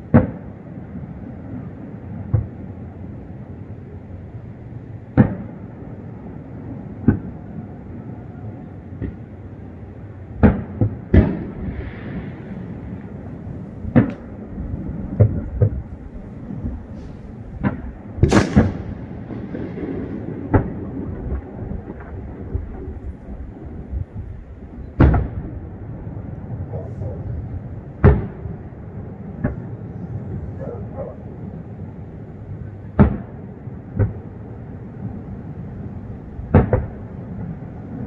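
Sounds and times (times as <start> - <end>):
fireworks bangs: 0.0 - 2.8, 5.0 - 9.7, 10.3 - 31.8, 32.5 - 34.4, 35.0 - 38.0
steady low rumble: 0.0 - 38.0.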